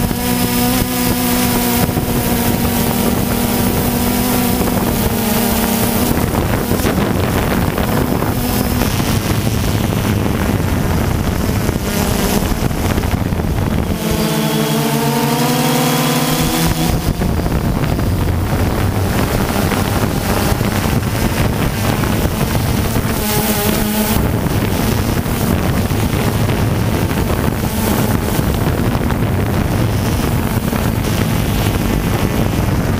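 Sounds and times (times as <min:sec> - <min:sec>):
drone propellers buzzing: 0:00.0 - 0:32.9
wind on microphone: 0:00.0 - 0:32.9.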